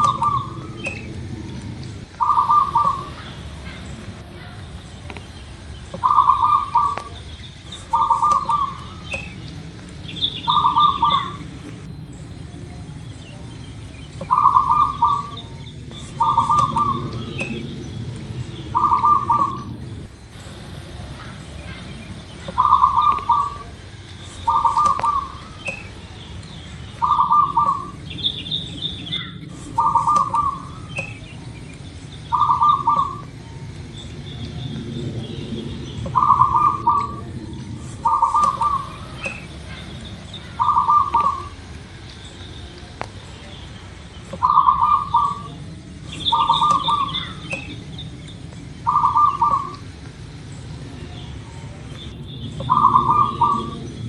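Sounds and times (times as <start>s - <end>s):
high bird chirps: 0.0s - 1.5s, 2.1s - 12.4s, 13.0s - 20.6s, 21.2s - 42.6s, 44.1s - 49.9s, 51.2s - 54.0s
dove cooing: 0.0s - 13.4s, 14.1s - 26.2s, 26.8s - 41.9s, 44.3s - 54.0s.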